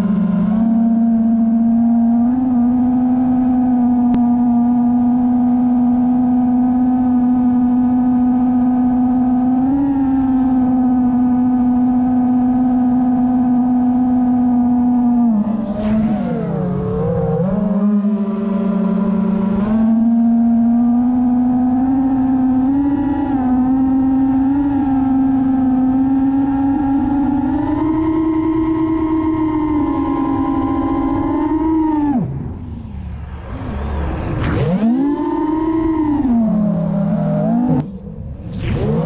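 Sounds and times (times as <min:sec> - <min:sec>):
drone motors and propellers whining: 0:00.0 - 0:39.0.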